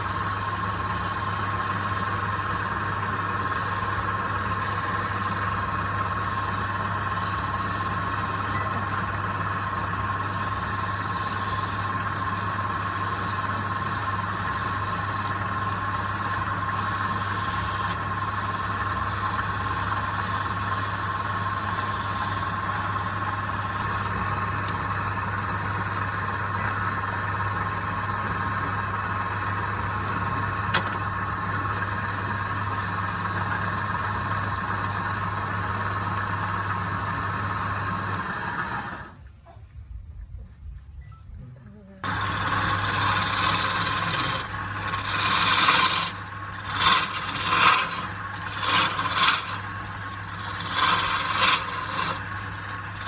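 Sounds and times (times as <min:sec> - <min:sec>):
woodworking machine motor whine: 0:00.0 - 0:39.2, 0:42.0 - 0:53.0.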